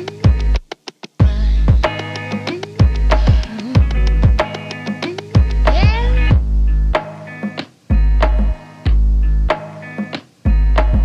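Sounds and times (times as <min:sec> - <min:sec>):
music with deep bass and drums: 0:00.0 - 0:00.6, 0:01.2 - 0:11.0.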